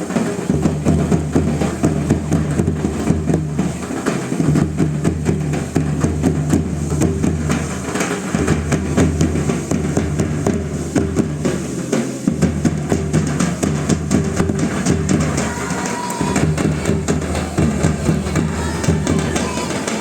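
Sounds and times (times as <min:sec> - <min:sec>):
folk drums beating: 0:00.0 - 0:20.0.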